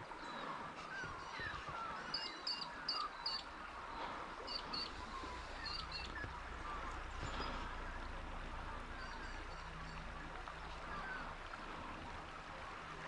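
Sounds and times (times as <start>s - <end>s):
low bird warbling: 0.2s - 12.5s.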